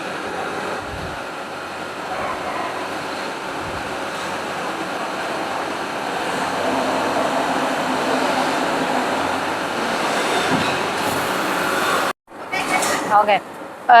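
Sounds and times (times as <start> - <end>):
factory machinery hiss and hum: 0.0 - 13.4.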